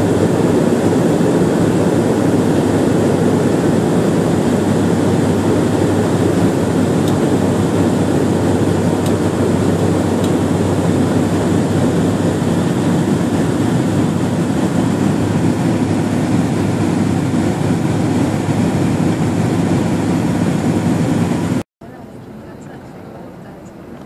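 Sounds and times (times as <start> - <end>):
rushing air: 0.0 - 21.6
propeller engines droning: 0.0 - 24.0.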